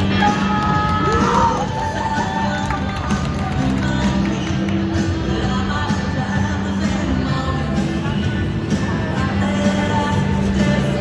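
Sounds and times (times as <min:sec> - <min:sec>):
crowd noise: 0:00.0 - 0:11.0
music over sound system: 0:00.0 - 0:11.0.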